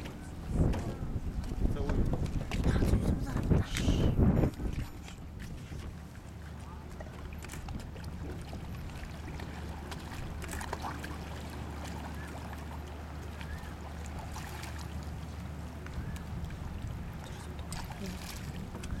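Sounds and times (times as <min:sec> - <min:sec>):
seawater splashing and lapping: 0:00.0 - 0:19.0
steady low rumble: 0:00.0 - 0:19.0.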